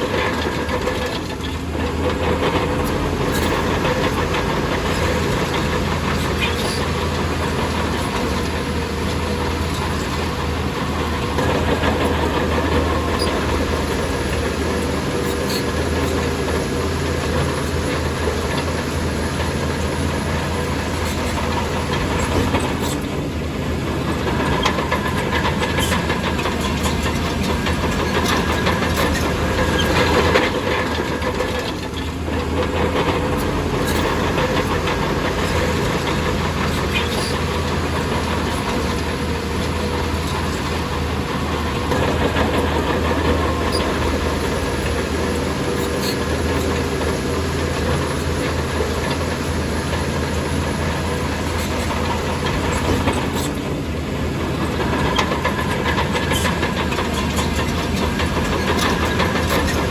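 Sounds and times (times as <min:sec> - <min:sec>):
bulldozer diesel engine: 0:00.0 - 0:59.9
tracks clanking: 0:00.0 - 0:59.9.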